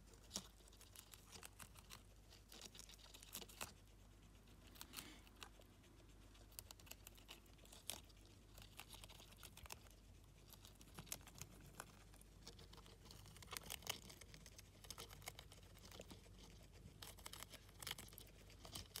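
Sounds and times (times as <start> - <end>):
guinea pigs nibbling lettuce: 0.0 - 19.0.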